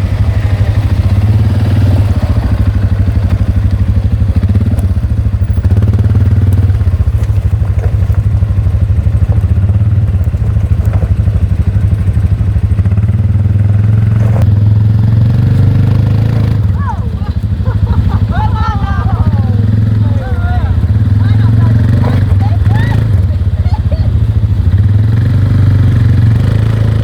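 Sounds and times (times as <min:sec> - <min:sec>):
quad bike engine running: 0:00.0 - 0:27.0.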